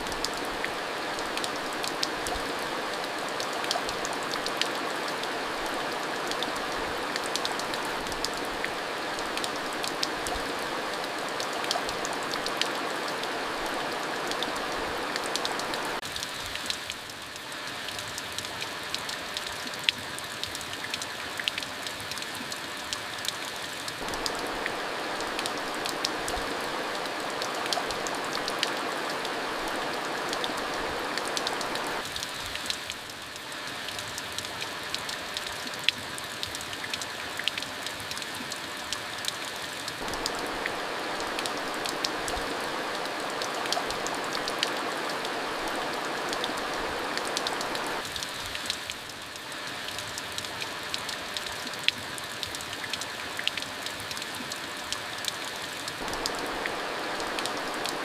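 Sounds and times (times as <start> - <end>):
steady rain with ticking drops: 0.0 - 58.0.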